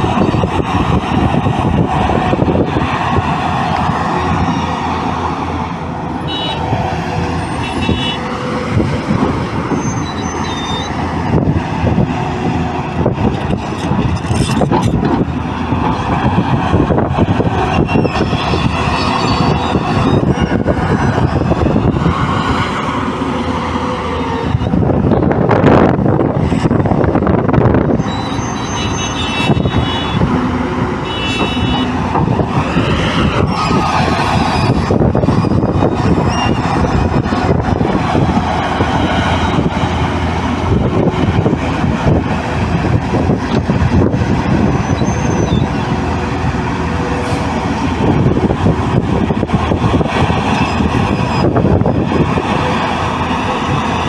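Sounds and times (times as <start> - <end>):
diesel engine rumbling drone: 0.0 - 54.0
excavator running: 0.0 - 54.0.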